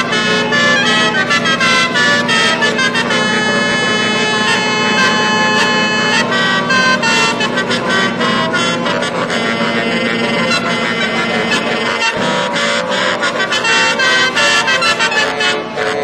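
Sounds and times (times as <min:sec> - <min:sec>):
tuned truck horns playing melody: 0:00.0 - 0:16.0.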